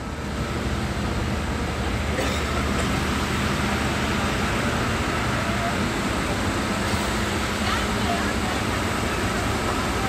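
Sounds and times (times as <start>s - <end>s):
large vehicle engine idling: 0.0s - 10.0s.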